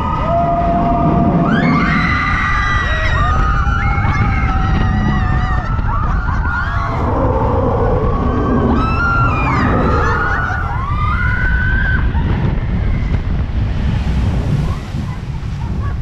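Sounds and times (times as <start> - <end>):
riders screaming: 0.0 - 13.2
wind buffeting microphone: 0.0 - 16.0.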